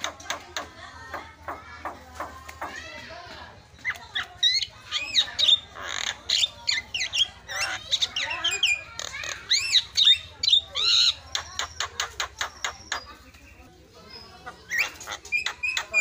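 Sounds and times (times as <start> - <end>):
myna bird singing: 0.0 - 16.0.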